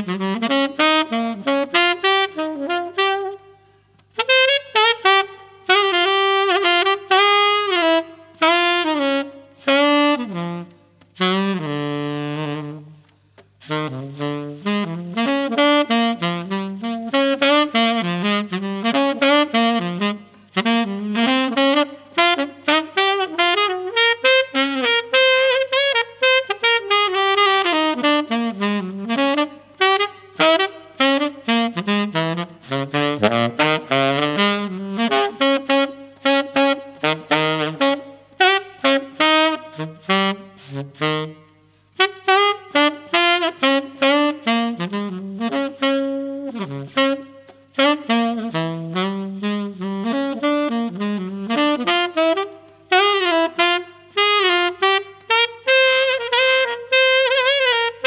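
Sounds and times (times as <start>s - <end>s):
tenor saxophone jazz melody: 0.0s - 58.0s.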